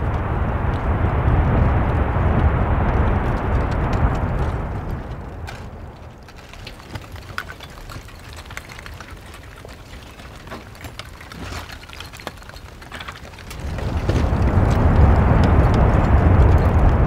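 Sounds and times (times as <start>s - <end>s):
faint low rumble: 0.0s - 17.0s
lava cracking and clicking: 0.0s - 17.0s.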